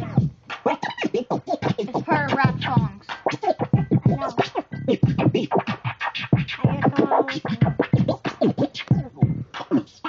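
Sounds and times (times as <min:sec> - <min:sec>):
music: 0:00.0 - 0:10.0
record scratching: 0:00.0 - 0:10.0.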